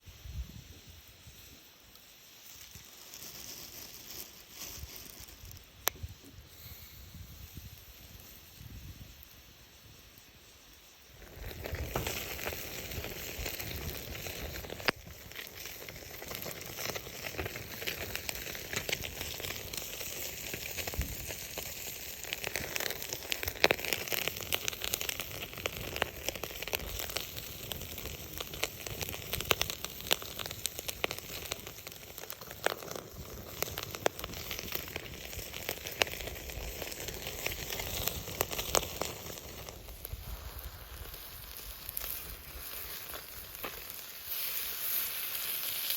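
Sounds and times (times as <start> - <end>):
campfire popping and crackling: 0.0 - 45.9
fish sizzling: 0.0 - 45.9.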